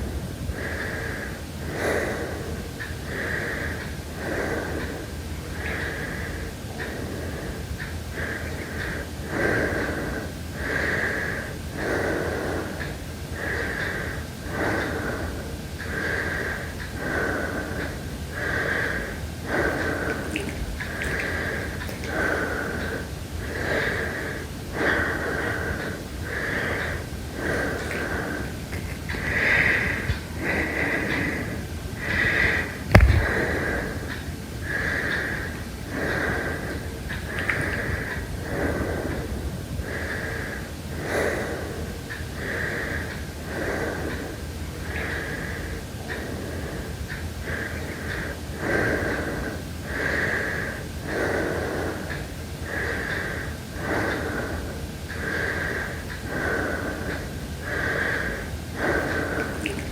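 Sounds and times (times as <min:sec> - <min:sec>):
heavy breathing: 0:00.3 - 0:59.9.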